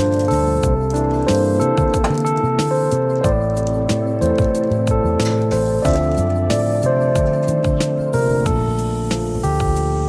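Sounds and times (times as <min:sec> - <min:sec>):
mellow instrumental music with beat: 0:00.0 - 0:10.0.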